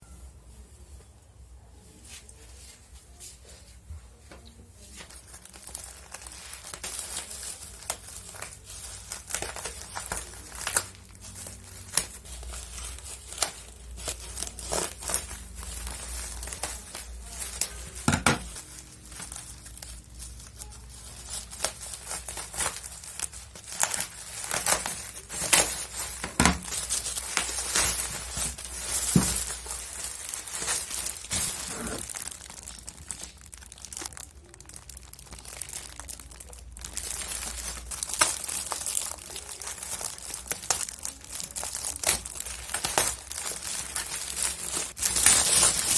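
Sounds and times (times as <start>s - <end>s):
packaging crinkling and tearing: 5.0s - 45.9s.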